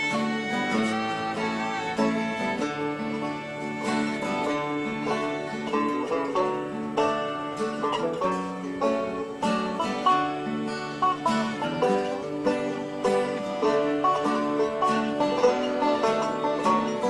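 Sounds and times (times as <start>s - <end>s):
instrumental music with plucked strings: 0.0s - 17.0s.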